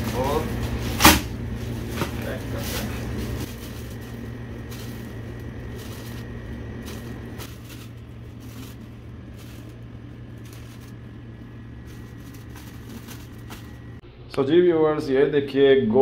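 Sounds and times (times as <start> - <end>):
plastic bags rustling: 0.0 - 14.0
steady low hum: 0.0 - 16.0.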